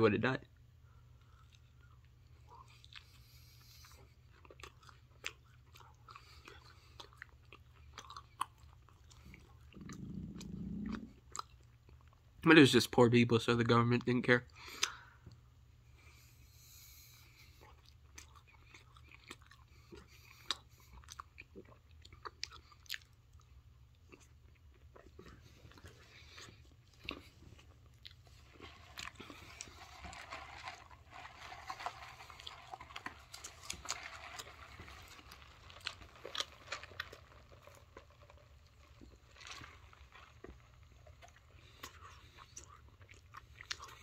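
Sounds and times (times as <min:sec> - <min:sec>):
crunchy food chewing: 0:01.2 - 0:12.3, 0:17.4 - 0:44.0.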